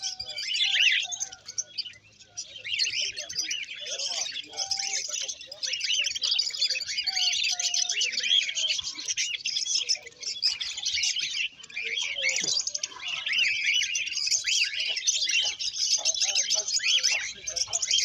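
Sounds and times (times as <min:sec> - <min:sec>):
chorus of small birds chirping: 0:00.0 - 0:18.0.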